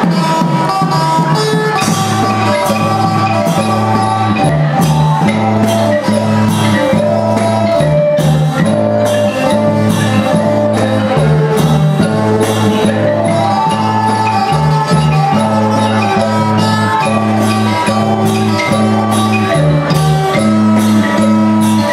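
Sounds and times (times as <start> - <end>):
drum and percussion beat: 0.0 - 21.9
traditional ensemble melody: 0.0 - 21.9.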